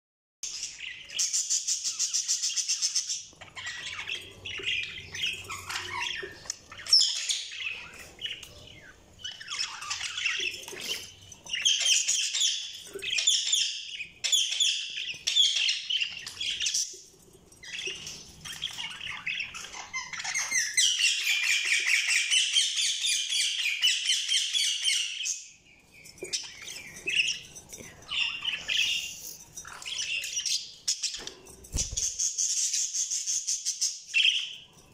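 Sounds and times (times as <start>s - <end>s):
budgies chirping and squawking: 0.4s - 34.9s.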